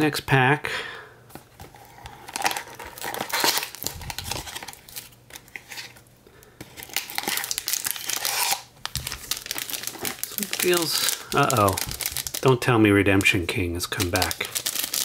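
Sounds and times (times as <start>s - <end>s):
foil wrapper crinkling: 2.2s - 6.0s, 6.7s - 15.0s.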